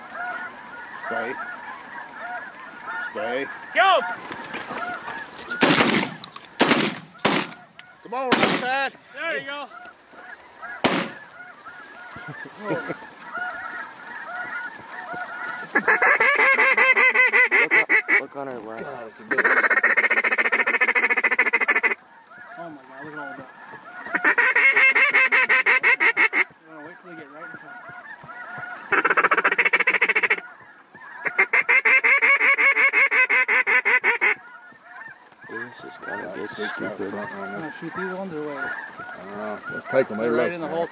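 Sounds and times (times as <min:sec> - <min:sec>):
waterfowl call rapid notes: 0:00.0 - 0:18.2, 0:19.3 - 0:40.9
faint waterfowl calling: 0:00.0 - 0:40.9
geese honking: 0:00.0 - 0:40.9.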